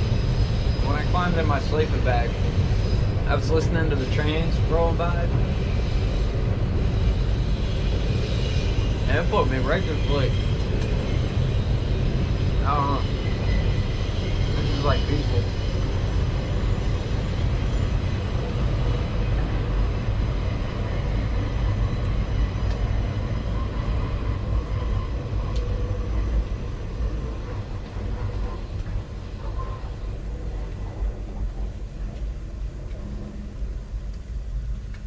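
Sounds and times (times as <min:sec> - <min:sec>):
train rolling past: 0:00.0 - 0:35.0.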